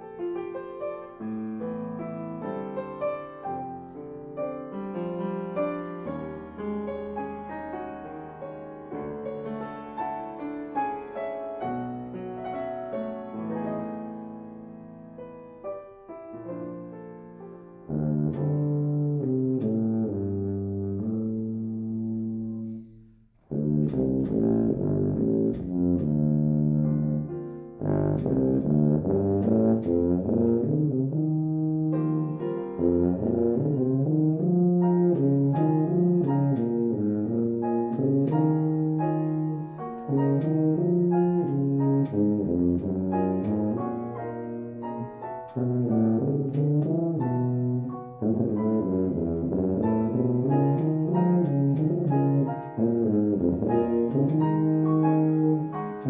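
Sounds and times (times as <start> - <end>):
piano: 0.0 - 56.0
tuba playing low notes: 0.0 - 56.0.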